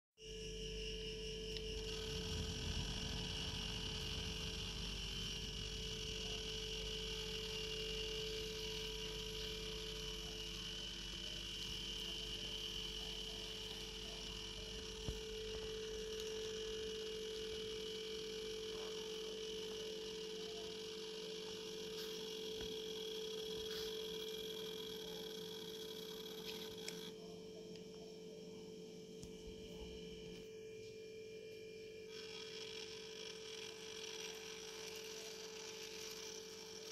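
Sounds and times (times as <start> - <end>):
model train motor hum and whine: 0.2 - 36.9.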